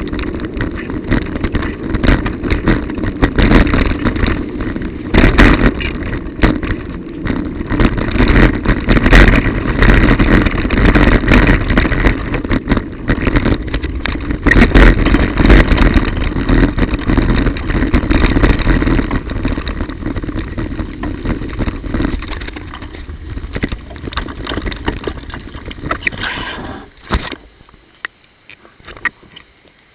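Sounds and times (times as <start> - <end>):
bicycle rattling over bumps: 0.0 - 29.7
bicycle tyres rumbling and hissing: 0.0 - 29.9
wind: 0.0 - 29.9.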